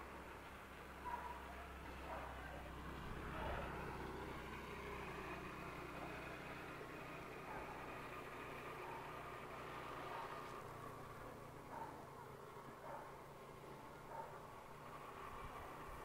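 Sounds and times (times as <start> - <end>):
vehicle passing: 0.2 - 16.0.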